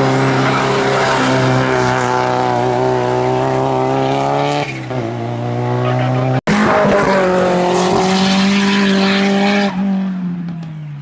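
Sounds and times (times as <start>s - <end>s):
race car engine at high revs: 0.0s - 10.6s.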